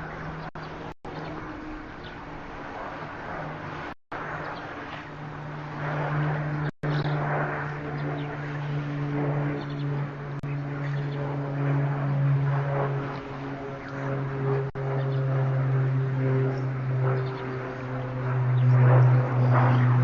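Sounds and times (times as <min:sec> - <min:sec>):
outdoor background noise: 0:00.0 - 0:20.0
steady engine drone: 0:00.0 - 0:20.0.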